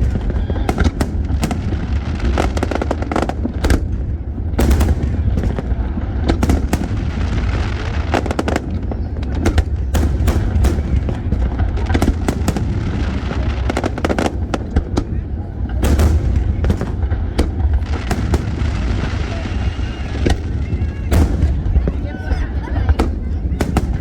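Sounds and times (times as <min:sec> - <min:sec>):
firework bangs: 0:00.0 - 0:24.0
firework crackling: 0:00.0 - 0:24.0.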